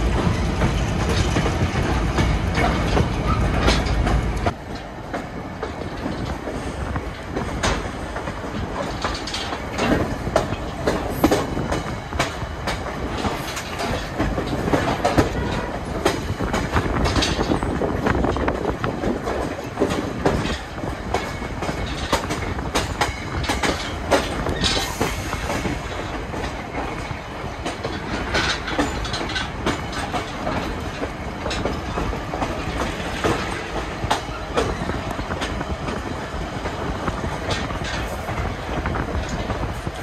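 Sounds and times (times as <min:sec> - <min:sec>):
railcar knocks and rattles: 0:00.0 - 0:40.0
train rumble: 0:00.0 - 0:40.0
wheels clacking over rail joints: 0:00.0 - 0:40.0.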